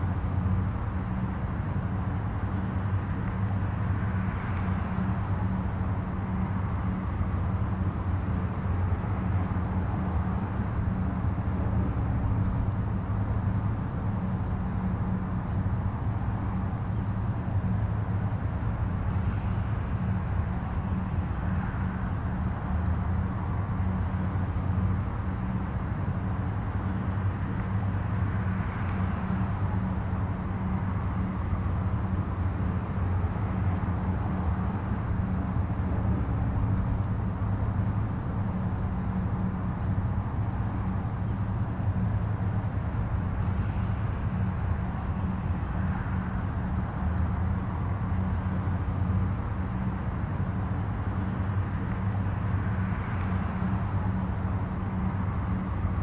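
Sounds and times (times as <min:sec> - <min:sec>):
distant highway traffic: 0:00.0 - 0:56.0.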